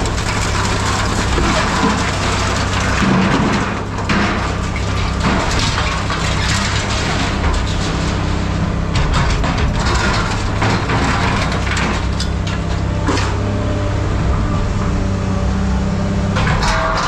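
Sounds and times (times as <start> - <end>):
metal crunching and cracking: 0.0 - 14.9, 16.2 - 17.0
low machine hum: 0.0 - 17.0.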